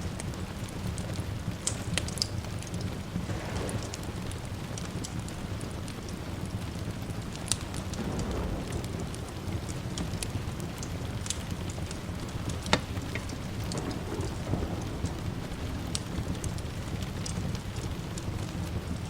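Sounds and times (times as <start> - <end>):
steady rain: 0.0 - 19.0
sharp crackling clicks: 1.0 - 19.0
distant thunder rumbling: 3.0 - 19.0.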